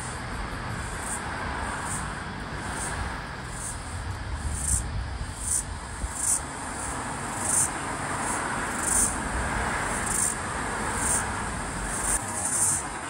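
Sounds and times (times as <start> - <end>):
background hiss and rumble: 0.0 - 13.0
cicada buzzing: 0.0 - 13.0.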